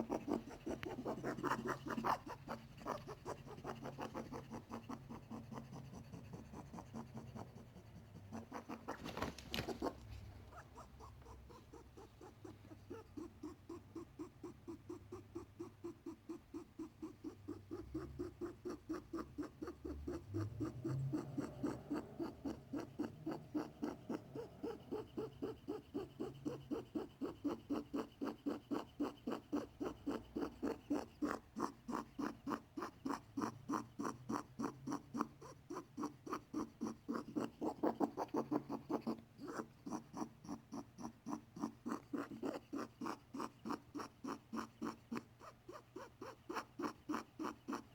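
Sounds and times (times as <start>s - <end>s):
rabbit squeaking: 0.0s - 47.9s.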